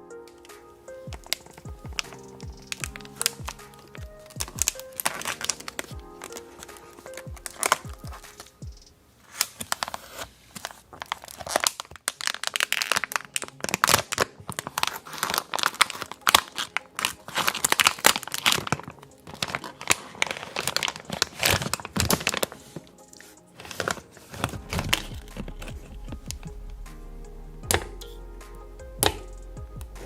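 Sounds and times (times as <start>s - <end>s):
plastic packaging crinkling: 0.0s - 26.4s.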